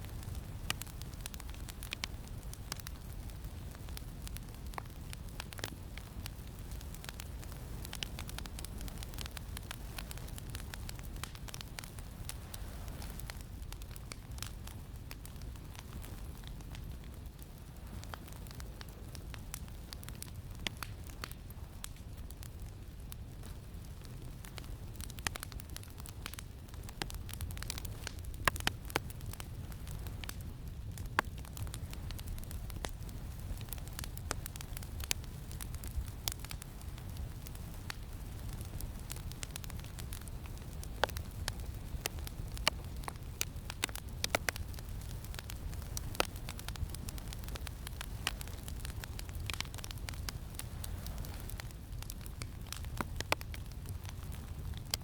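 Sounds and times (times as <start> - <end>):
campfire crackling: 0.0 - 55.0
fire pops and snaps: 0.0 - 55.0
low rumble of wind: 0.0 - 55.0.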